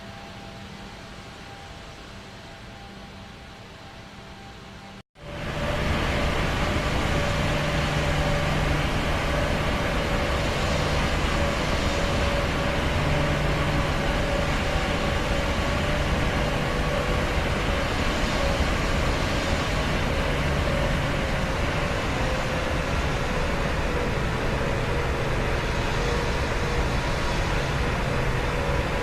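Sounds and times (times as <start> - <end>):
low constant hum: 4.3 - 29.0
airplane rushing noise: 5.2 - 29.0.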